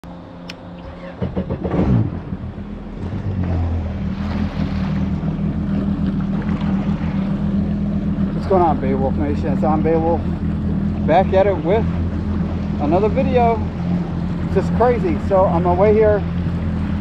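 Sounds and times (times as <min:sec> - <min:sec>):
jet ski engine revving: 0:00.1 - 0:17.0.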